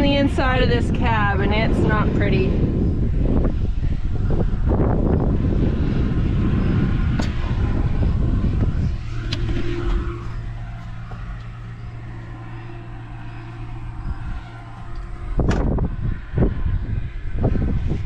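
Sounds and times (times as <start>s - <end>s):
machine rumbling and humming: 0.0s - 18.0s.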